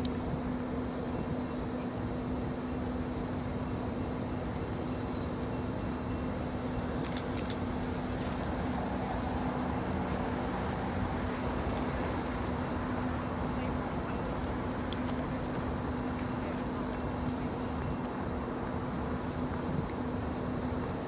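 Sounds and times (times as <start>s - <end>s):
street traffic: 0.1s - 21.0s
steady engine hum: 0.2s - 21.0s.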